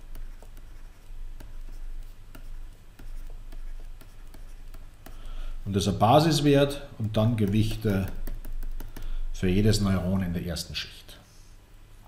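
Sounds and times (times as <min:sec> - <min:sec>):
stylus tapping and scratching: 0:00.0 - 0:10.3
low steady hum: 0:00.0 - 0:12.0.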